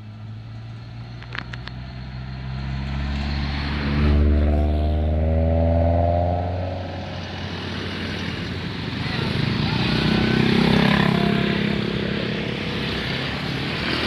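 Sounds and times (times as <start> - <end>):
bus diesel engine accelerating: 0.0 - 14.0.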